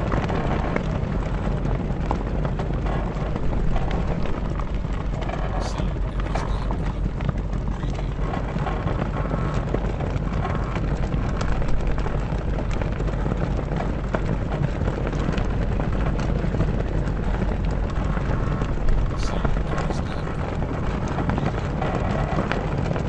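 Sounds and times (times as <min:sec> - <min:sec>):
low rumble: 0:00.0 - 0:23.0
mast creaking: 0:00.0 - 0:23.0
sails flapping in wind: 0:00.0 - 0:23.0.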